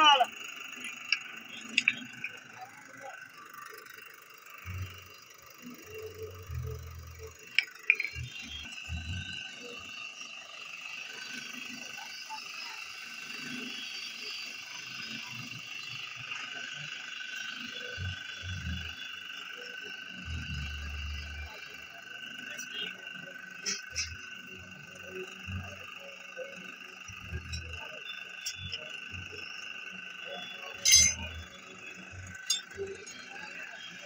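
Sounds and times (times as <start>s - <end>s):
drill press whine: 0.0s - 34.0s.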